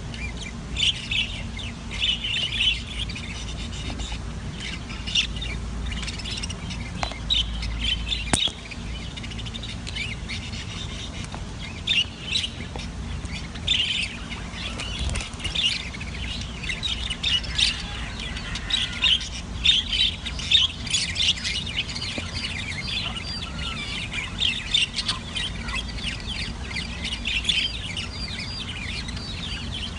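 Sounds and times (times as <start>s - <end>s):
parrots chirping and squawking: 0.0s - 29.9s.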